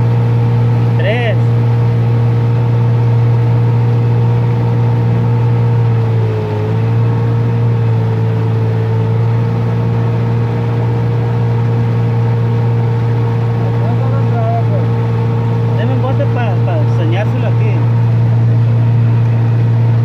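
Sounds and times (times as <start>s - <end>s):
outboard motor drone: 0.0s - 20.0s.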